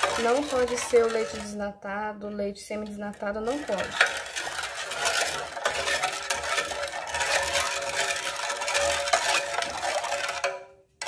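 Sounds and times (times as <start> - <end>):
spoon scraping in metal pot: 0.0 - 1.6, 2.7 - 10.8.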